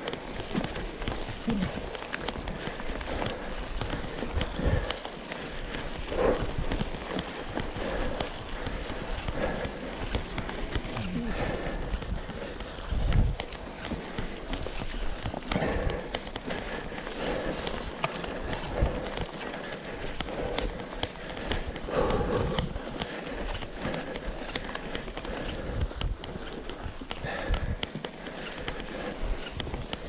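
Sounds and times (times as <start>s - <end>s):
bike rattling: 0.0s - 30.0s
bike tyres rolling on dirt and stones: 0.0s - 30.0s.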